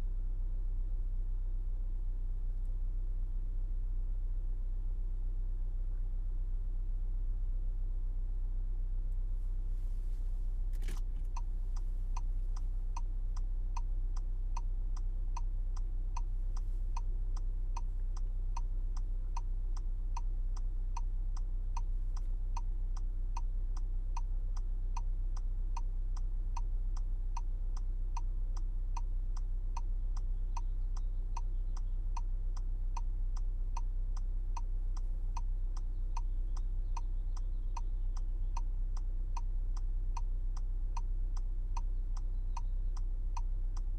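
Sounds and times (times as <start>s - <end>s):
idling engine hum: 0.0s - 43.9s.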